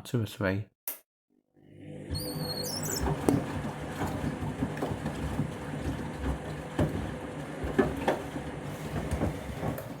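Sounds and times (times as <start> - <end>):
washing machine humming: 1.6 - 10.0.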